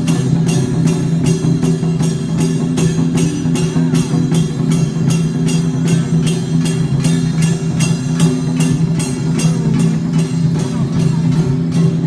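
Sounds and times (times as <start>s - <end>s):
procession percussion beat: 0.0s - 12.0s.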